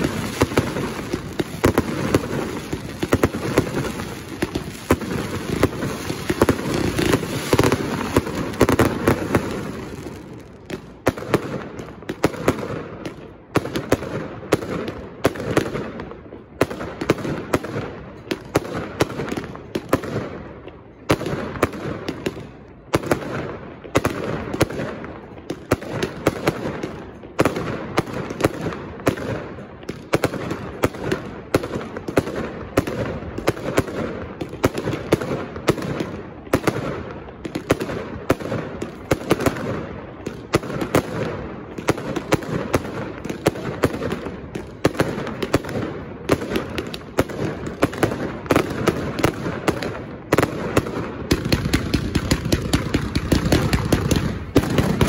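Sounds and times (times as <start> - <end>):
fireworks bursting with sharp bangs: 0.0 - 55.0
fireworks crackling: 0.0 - 55.0.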